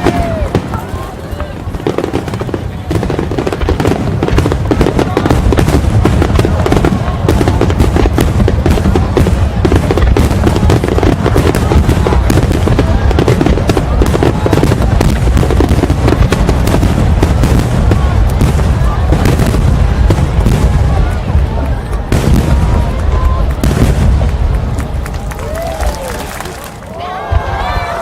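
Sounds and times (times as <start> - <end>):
fireworks booming and crackling: 0.0 - 28.0.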